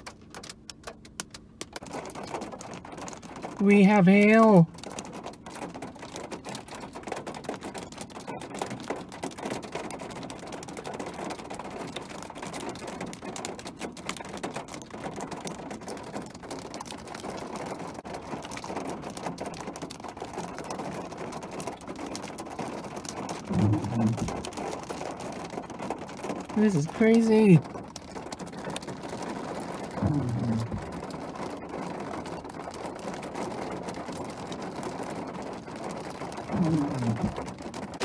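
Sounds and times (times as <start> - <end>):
hail clattering on pavement: 0.0 - 38.0.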